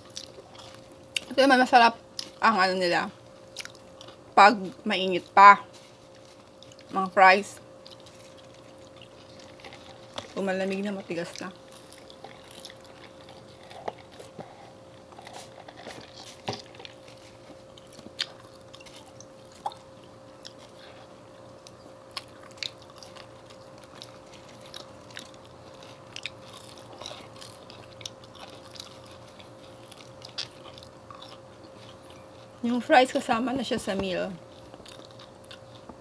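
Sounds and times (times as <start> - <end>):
chewing fries: 0.0 - 36.0
faint steady hum: 0.0 - 36.0.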